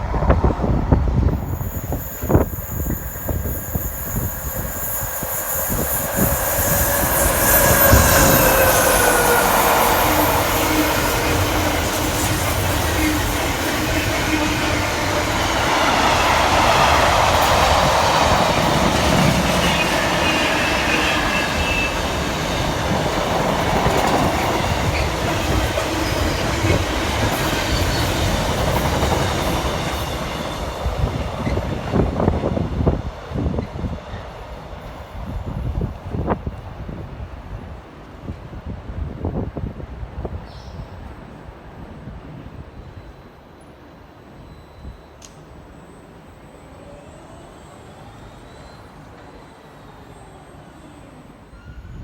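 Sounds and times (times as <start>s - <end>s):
wind buffeting microphone: 0.0s - 43.0s
train rumbling past: 0.0s - 52.0s.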